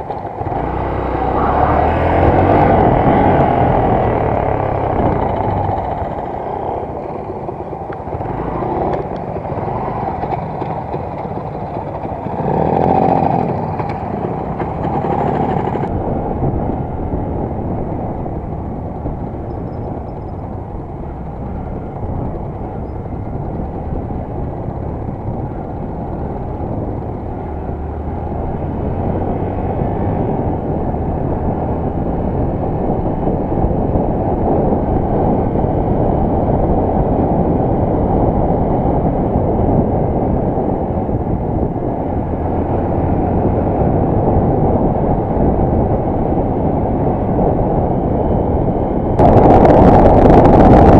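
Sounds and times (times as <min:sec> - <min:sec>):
motorcycle engine running: 0:00.0 - 0:50.9
wind on microphone: 0:00.0 - 0:50.9.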